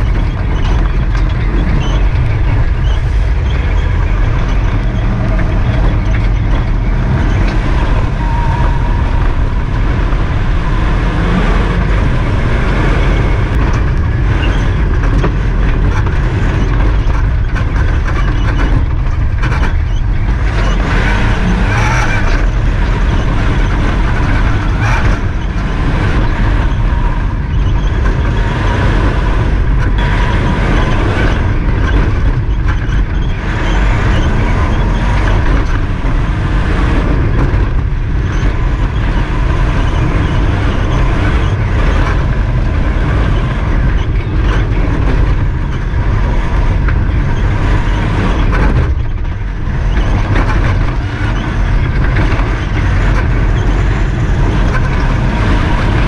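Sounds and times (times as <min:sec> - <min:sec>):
gravel and road noise: 0:00.0 - 0:56.0
loud car engine and drivetrain: 0:00.0 - 0:56.0.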